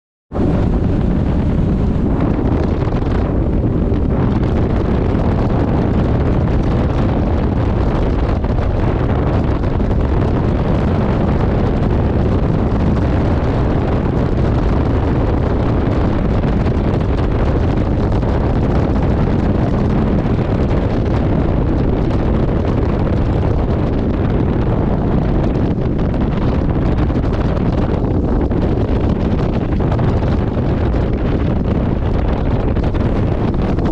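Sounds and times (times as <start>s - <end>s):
boat motor and hull: 0.3s - 33.9s
wind buffeting microphone: 0.3s - 33.9s.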